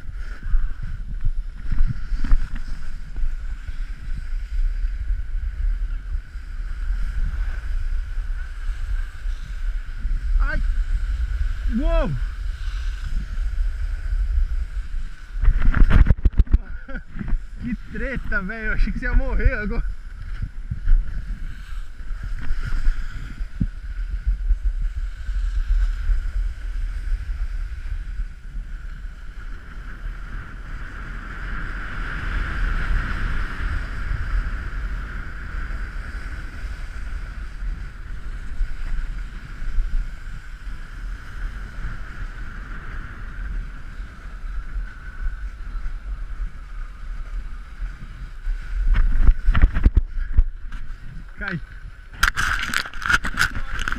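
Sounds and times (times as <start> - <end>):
snowboard sliding over packed snow: 0.0 - 53.9
wind buffeting microphone: 0.0 - 53.9.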